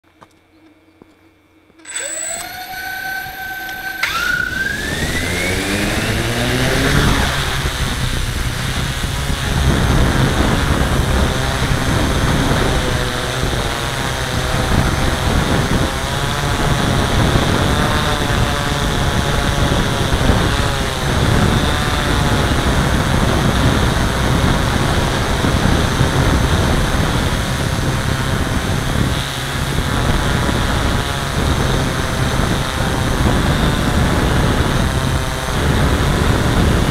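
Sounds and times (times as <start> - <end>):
drone motors buzzing: 0.2 - 36.9.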